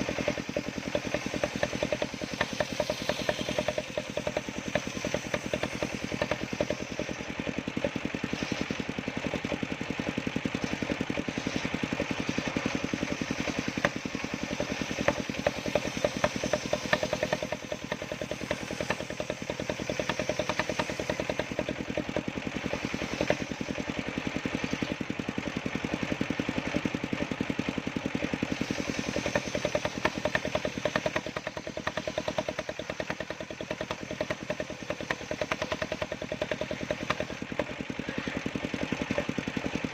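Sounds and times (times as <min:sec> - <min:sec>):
small sawmill engine running: 0:00.0 - 0:39.9.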